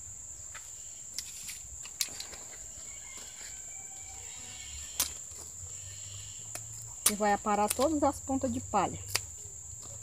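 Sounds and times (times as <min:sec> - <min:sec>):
high-pitched insect chirring: 0:00.3 - 0:09.8.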